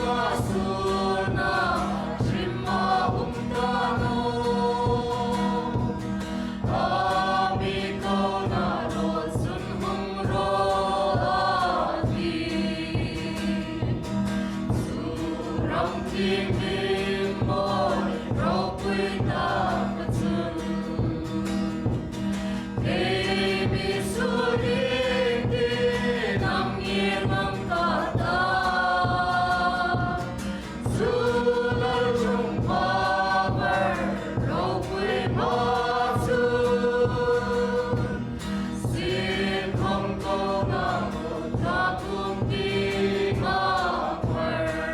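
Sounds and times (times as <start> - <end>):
group singing a hymn: 0.0 - 44.9
instrumental accompaniment: 0.0 - 44.9.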